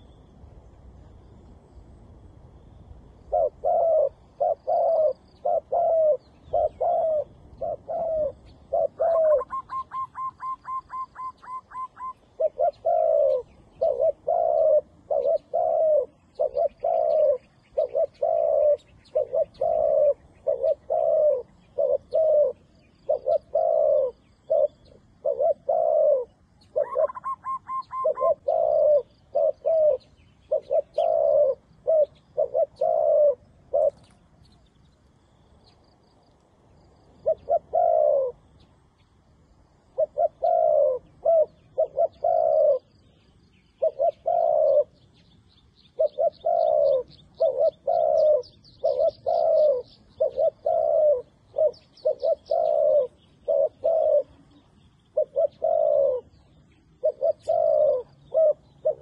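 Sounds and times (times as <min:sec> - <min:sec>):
small birds chirping: 0:02.7 - 0:59.0
doves cooing: 0:03.2 - 0:34.5, 0:36.8 - 0:45.2, 0:45.8 - 0:59.0.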